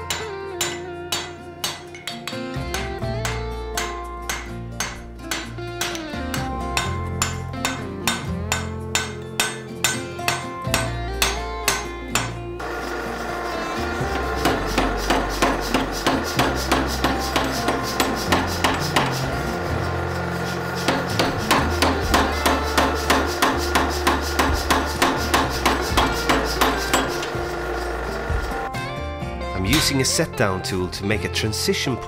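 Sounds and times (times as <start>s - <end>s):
power hammer metal blows: 0.0s - 28.7s.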